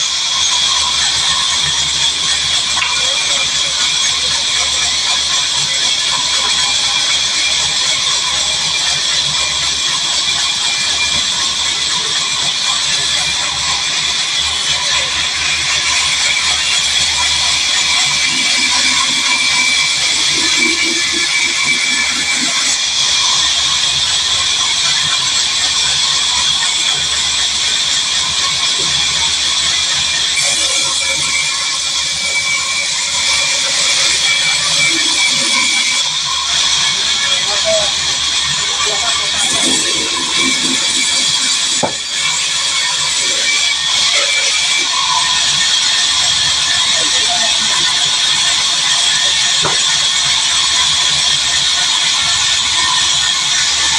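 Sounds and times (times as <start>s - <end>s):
band saw running: 0.0s - 53.9s.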